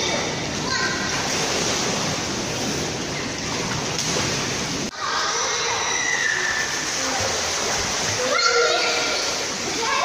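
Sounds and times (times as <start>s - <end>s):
children splashing in pool: 0.0s - 10.0s.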